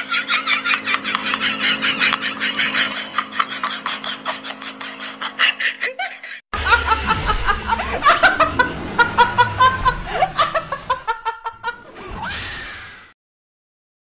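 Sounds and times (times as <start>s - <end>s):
woman laughing hard: 0.0s - 11.9s.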